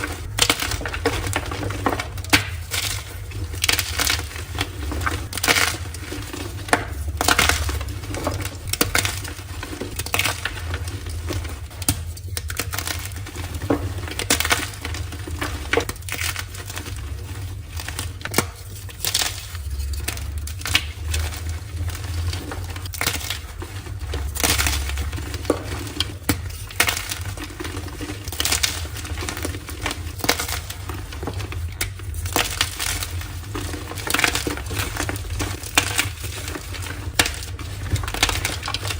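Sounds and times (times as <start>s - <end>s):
chalk blocks crunching: 0.0s - 38.9s.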